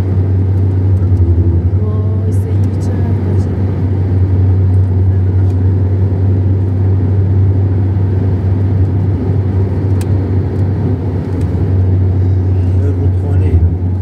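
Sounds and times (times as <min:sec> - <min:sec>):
car engine drone: 0:00.0 - 0:14.0
road rumble: 0:00.0 - 0:14.0.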